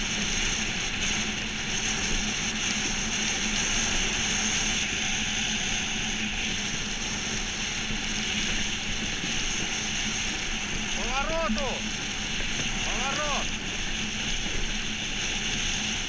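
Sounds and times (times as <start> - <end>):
constant low hum: 0.0 - 16.0
iceboat runners rushing on ice: 0.0 - 16.0.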